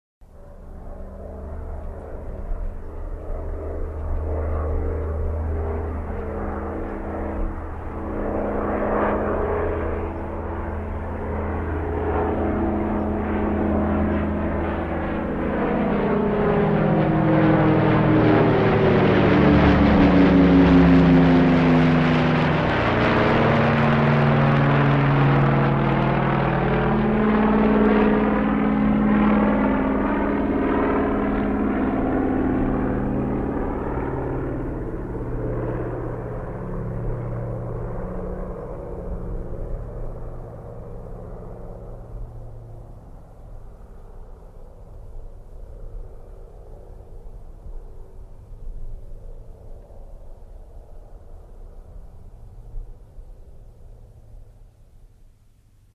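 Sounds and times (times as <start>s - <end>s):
airplane flying overhead: 0.2s - 55.9s.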